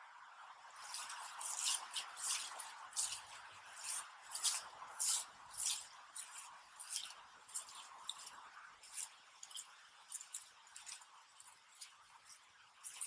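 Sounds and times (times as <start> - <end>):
footsteps through grass and leaves: 0.7 - 13.0.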